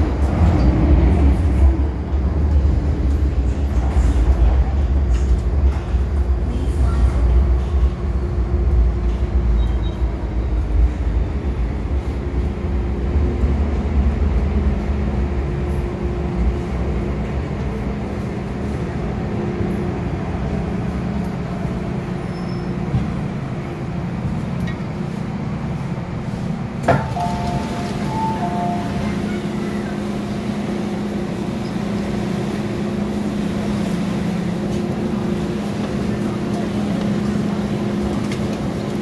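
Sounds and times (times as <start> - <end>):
train rumble and motor hum: 0.0 - 39.0.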